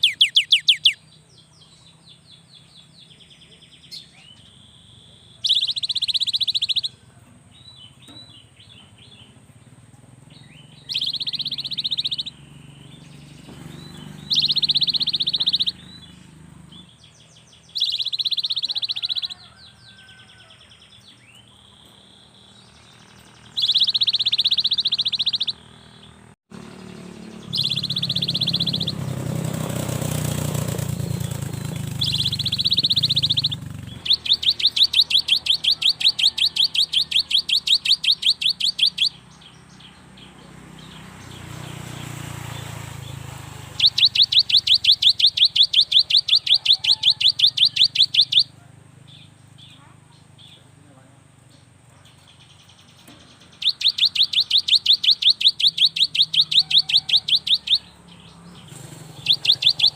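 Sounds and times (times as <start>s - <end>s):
bird chattering and trilling: 0.0s - 59.9s.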